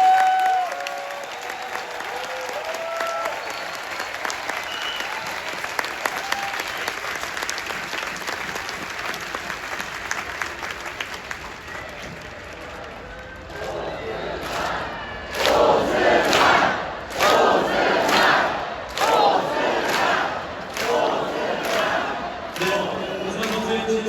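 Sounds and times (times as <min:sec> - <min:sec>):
stadium crowd applauding: 0:00.0 - 0:24.0.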